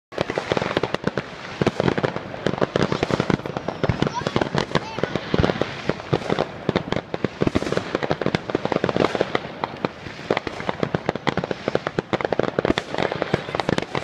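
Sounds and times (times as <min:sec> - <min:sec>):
fireworks bangs and pops: 0:00.1 - 0:14.0
fireworks crackling: 0:00.1 - 0:14.0.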